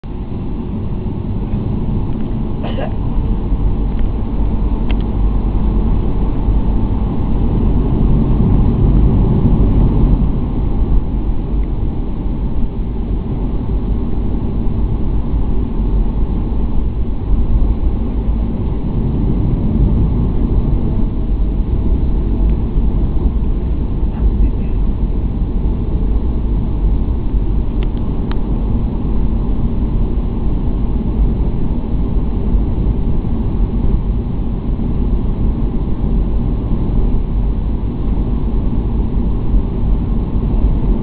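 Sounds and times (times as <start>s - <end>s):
jet engines rumbling: 0.0s - 41.0s.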